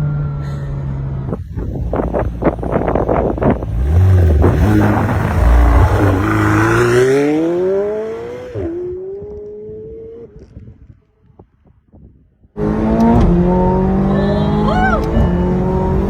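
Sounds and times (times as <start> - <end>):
car engine accelerating hard: 0.0 - 10.4, 12.6 - 16.0.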